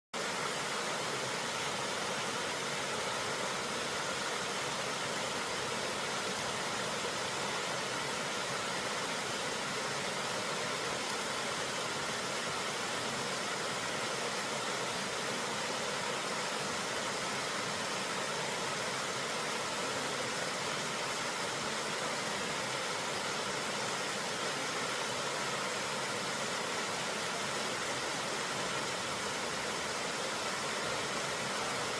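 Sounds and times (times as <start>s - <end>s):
stream water rushing: 0.2s - 31.9s.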